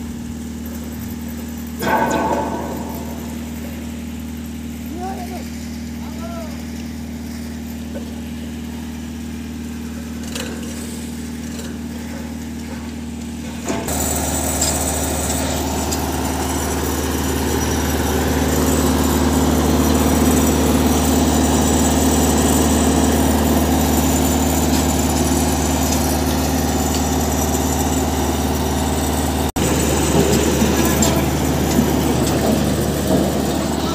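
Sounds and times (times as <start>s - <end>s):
roll-forming machine humming: 0.6s - 33.9s.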